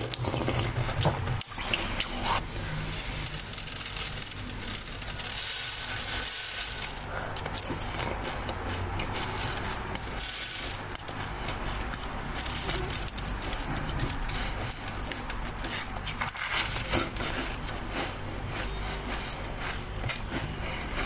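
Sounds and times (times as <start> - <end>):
person chewing and crunching food: 0.0 - 21.0
wooden spoon scraping food: 2.6 - 21.0.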